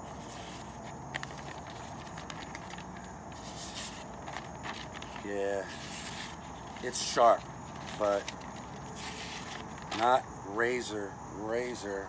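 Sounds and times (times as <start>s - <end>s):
paper rustling: 0.0s - 10.3s
steady background hiss: 0.0s - 12.0s.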